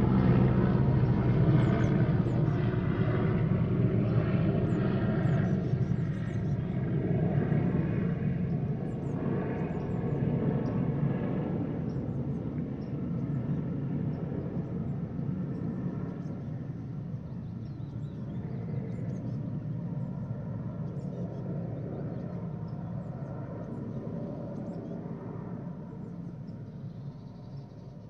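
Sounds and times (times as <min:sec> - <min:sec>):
helicopter flying past: 0:00.0 - 0:28.0.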